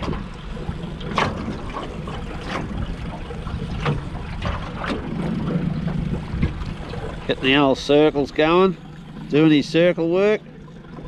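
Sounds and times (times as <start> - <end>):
waves slapping metal hull: 0.0 - 11.0
steady low rumble: 1.6 - 11.0.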